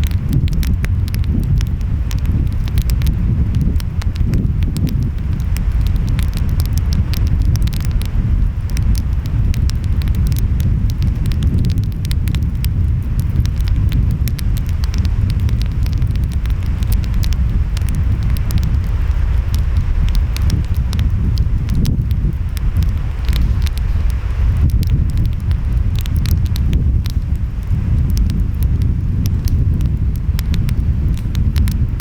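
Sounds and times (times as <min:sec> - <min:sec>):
wind: 0:00.0 - 0:32.0
wood fire crackling: 0:00.0 - 0:32.0.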